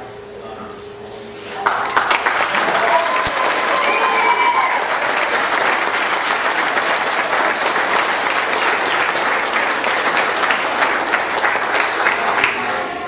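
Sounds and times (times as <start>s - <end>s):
crowd applauding: 1.6s - 13.0s.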